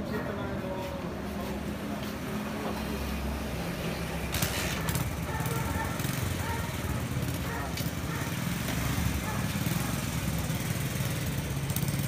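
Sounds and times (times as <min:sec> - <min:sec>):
engine running low: 0:01.3 - 0:12.0.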